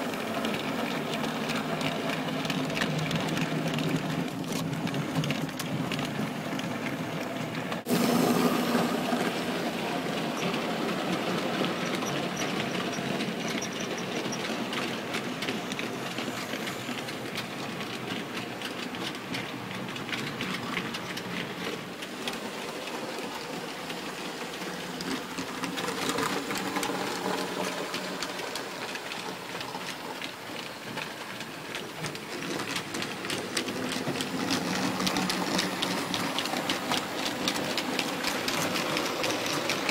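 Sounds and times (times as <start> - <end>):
small wheels clicking over rail joints: 0.0 - 39.9.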